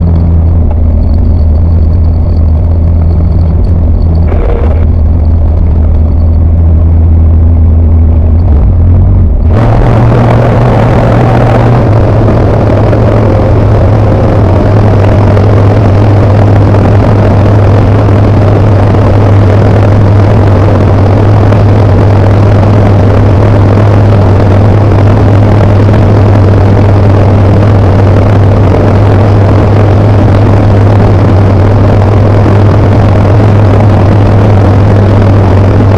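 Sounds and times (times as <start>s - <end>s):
light aircraft engine droning: 0.0s - 35.9s.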